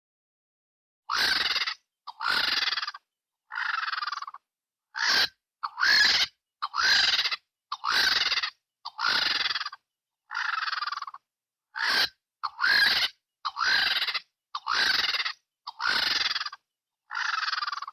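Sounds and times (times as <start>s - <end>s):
vulture squealing calls: 1.1s - 17.9s.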